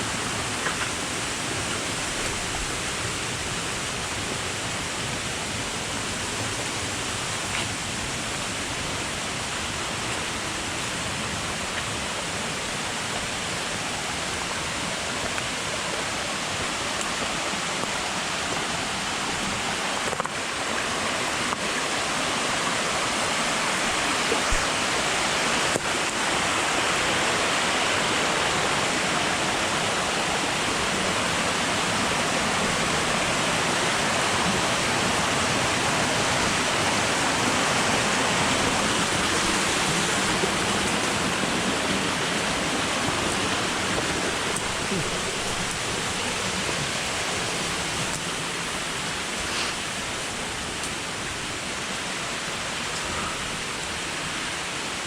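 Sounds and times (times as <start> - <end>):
flowing falling water: 0.0 - 55.0.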